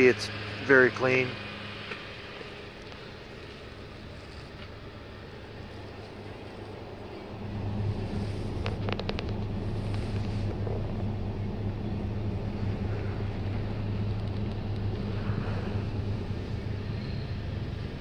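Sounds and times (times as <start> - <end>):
low hum inside car cabin: 0.0 - 18.0.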